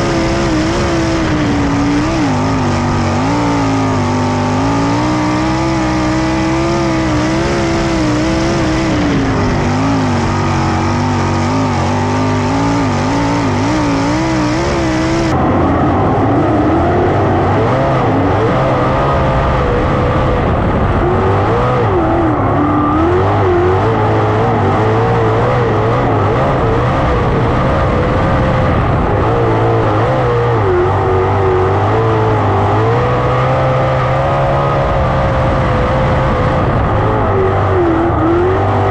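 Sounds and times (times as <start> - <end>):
racing car engines revving: 0.0 - 38.9.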